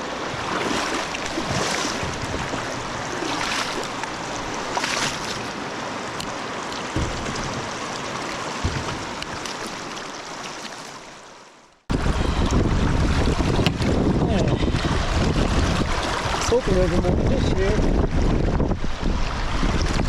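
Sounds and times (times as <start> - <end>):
river water rushing: 0.0 - 16.8.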